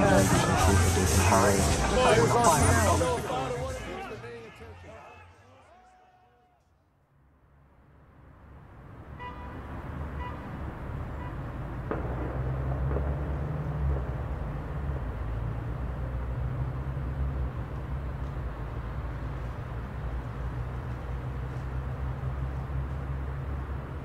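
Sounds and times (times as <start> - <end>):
rumble of traffic: 0.0 - 24.0.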